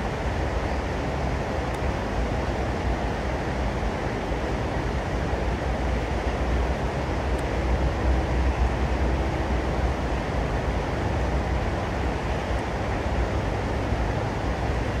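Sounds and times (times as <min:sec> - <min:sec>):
steady rumbling with hiss: 0:00.0 - 0:15.0.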